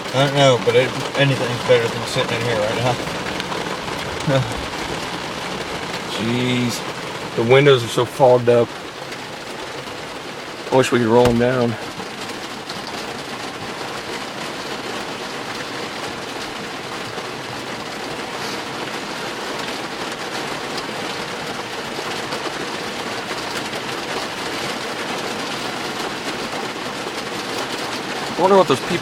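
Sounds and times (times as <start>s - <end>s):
heavy rain on car roof: 0.0s - 29.0s.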